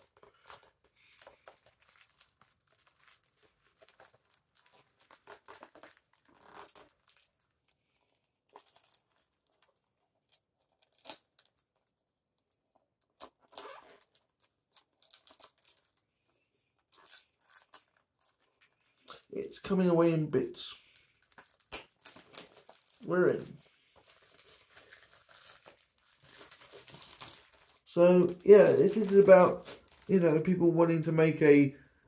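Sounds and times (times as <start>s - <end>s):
plastic wrap crinkling and tearing: 0.0s - 30.6s.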